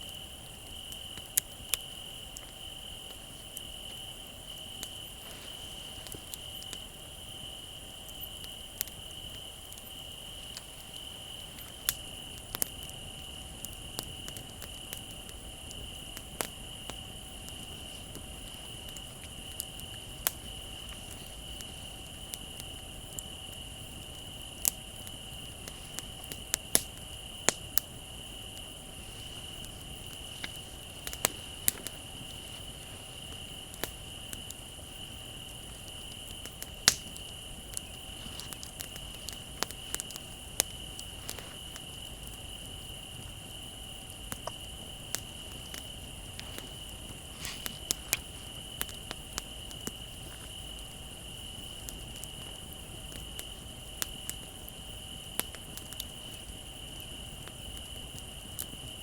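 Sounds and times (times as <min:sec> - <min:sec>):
crickets trilling: 0:00.0 - 0:59.0
wood fire crackling and popping: 0:00.0 - 0:59.0.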